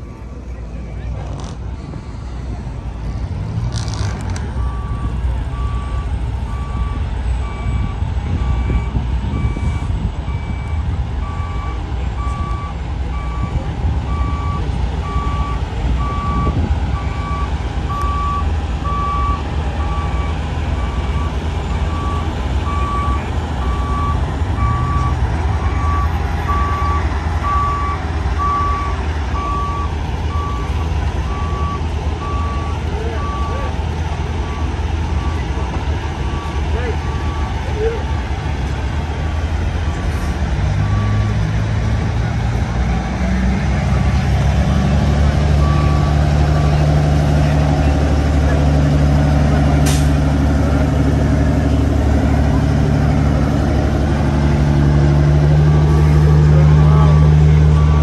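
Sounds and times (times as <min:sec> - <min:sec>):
truck backup alarm beeping: 0:00.0 - 0:38.5, 0:39.3 - 0:58.0
diesel engine running: 0:00.0 - 0:58.0.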